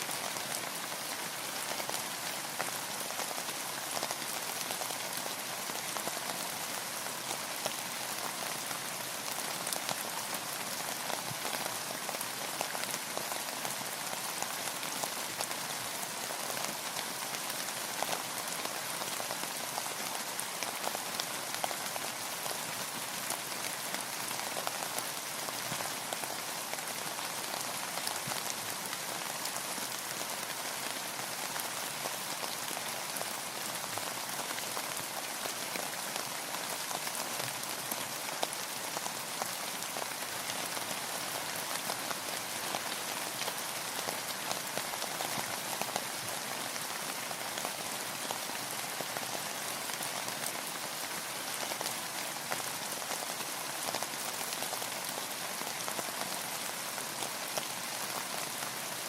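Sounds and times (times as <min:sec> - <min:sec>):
rain on a hard surface: 0:00.0 - 0:59.0.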